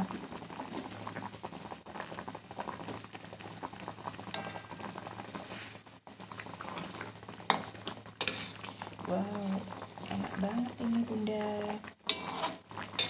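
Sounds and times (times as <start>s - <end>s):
broth bubbling at a boil: 0.0s - 13.0s.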